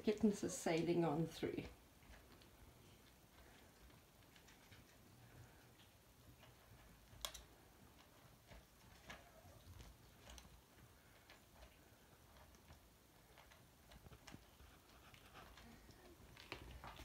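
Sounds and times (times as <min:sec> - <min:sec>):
kittens eating wet food: 0:00.0 - 0:17.0.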